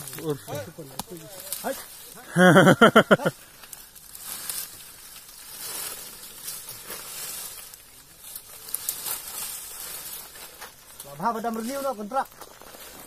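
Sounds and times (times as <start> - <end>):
dry leaves crackling underfoot: 0.0 - 13.0.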